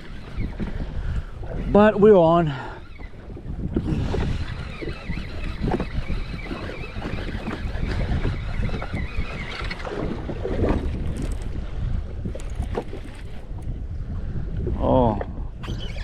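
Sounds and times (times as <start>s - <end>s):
water lapping against jet ski: 0.0s - 16.0s
wind buffeting microphone: 0.0s - 16.0s.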